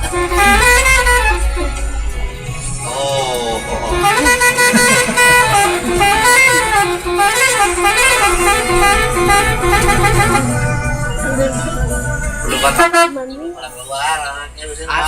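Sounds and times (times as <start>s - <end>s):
bus multi-tone horn melody: 0.0s - 14.6s.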